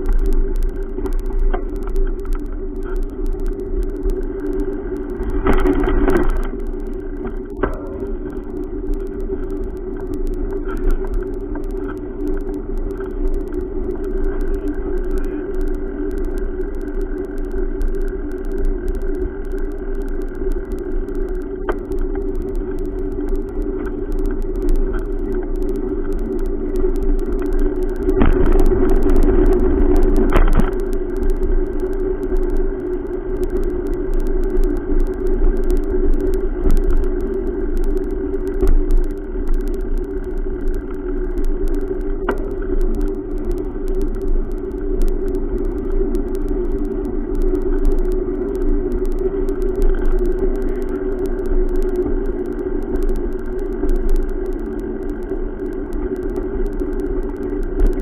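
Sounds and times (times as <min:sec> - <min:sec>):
sharp clicks: 0:00.0 - 0:58.0.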